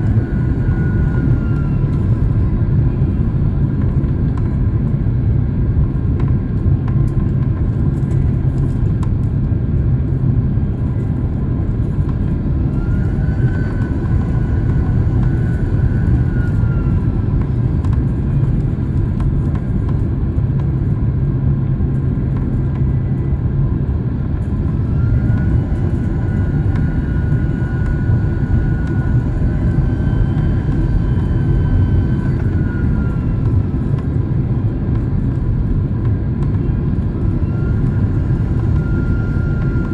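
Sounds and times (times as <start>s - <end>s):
high whine: 0.0s - 4.6s, 11.8s - 39.9s
jet cabin engine rumble: 0.0s - 39.9s.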